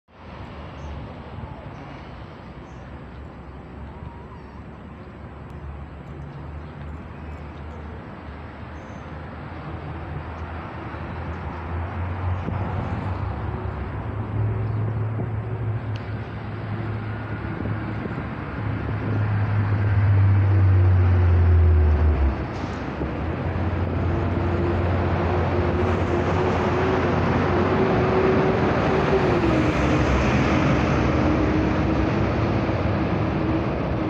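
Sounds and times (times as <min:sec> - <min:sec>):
street traffic noise: 0:00.1 - 0:34.0
vehicle engine rumble: 0:00.1 - 0:34.0.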